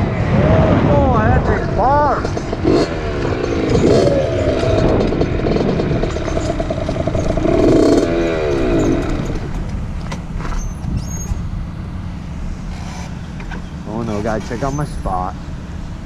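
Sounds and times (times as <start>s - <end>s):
dirt bike engine revving: 0.0s - 11.7s, 12.3s - 16.0s.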